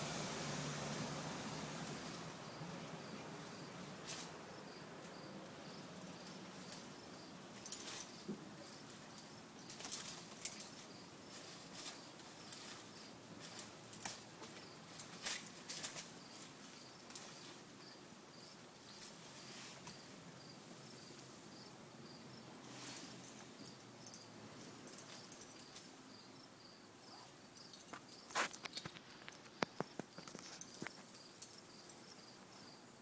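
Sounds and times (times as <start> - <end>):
insects chirping: 0.1 - 33.0.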